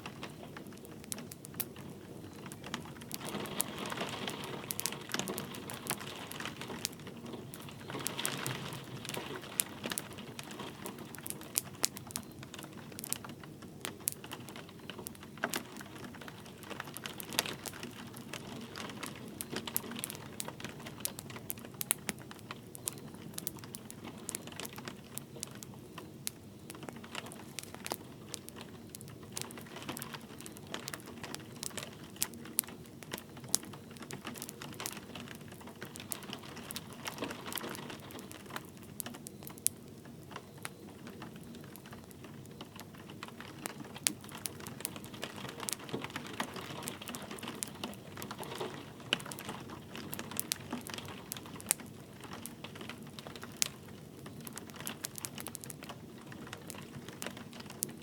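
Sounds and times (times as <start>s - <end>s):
light rain pattering: 0.0s - 58.0s
wood fire crackling and popping: 0.0s - 58.0s.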